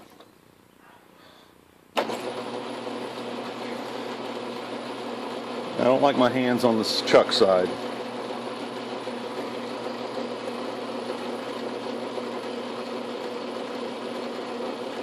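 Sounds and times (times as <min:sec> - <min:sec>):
lathe humming: 0:02.0 - 0:15.0.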